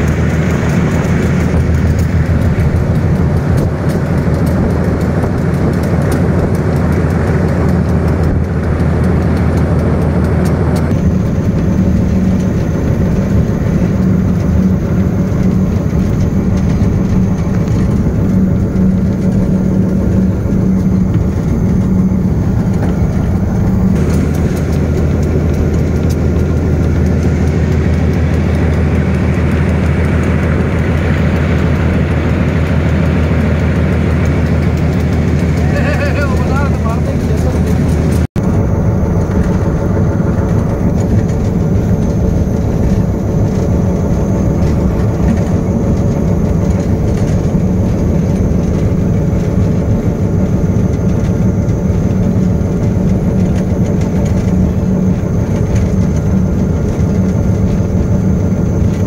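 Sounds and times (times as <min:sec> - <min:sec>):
diesel locomotive engine drone: 0:00.0 - 0:59.0
train rattling: 0:00.0 - 0:59.0.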